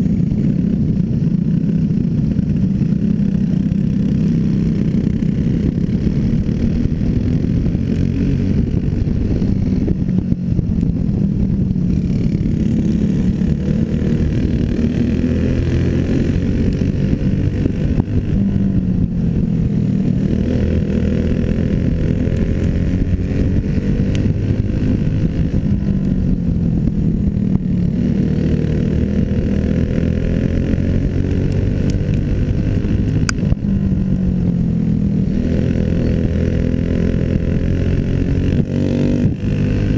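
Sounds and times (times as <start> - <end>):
small racing engine running hard: 0.0 - 39.9.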